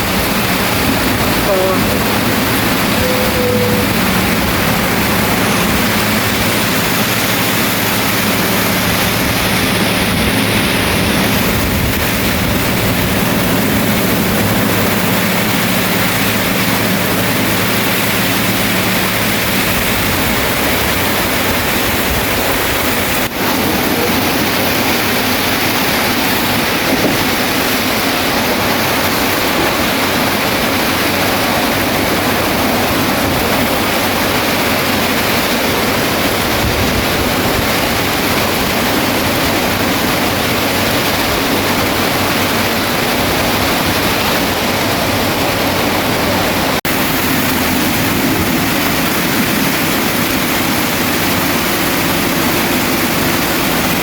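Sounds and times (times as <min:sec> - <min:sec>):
bulldozer diesel engine: 0:00.0 - 0:54.0
rain hissing: 0:00.0 - 0:54.0.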